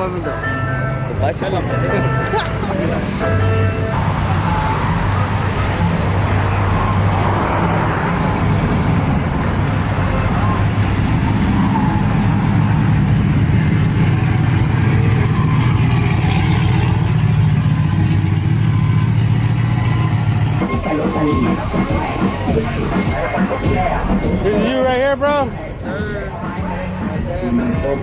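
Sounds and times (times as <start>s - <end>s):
faint voices: 0.0s - 15.6s, 19.9s - 28.0s
vehicle engines rumbling: 0.0s - 28.0s.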